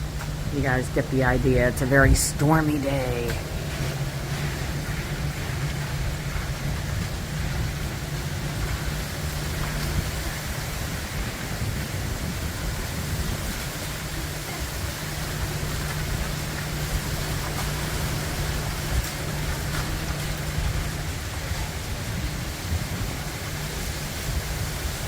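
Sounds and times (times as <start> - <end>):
steady low hum: 0.0 - 24.9
gusty wind through trees: 0.0 - 25.0
heavy low rumble: 0.0 - 25.0
wind buffeting microphone: 0.0 - 25.0.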